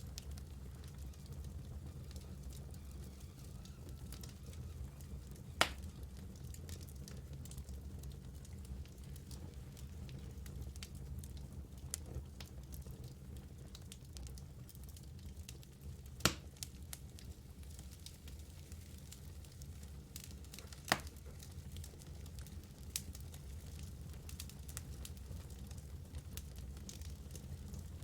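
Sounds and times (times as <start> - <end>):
fire crackling: 0.0 - 28.0
fire popping: 0.0 - 28.0.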